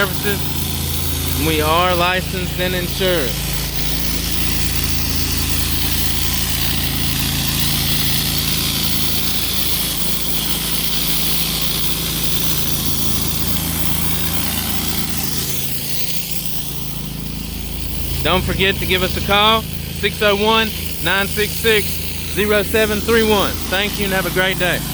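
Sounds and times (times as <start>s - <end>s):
pressure washer engine running: 0.0s - 24.9s
water spray hissing on concrete: 0.0s - 24.9s.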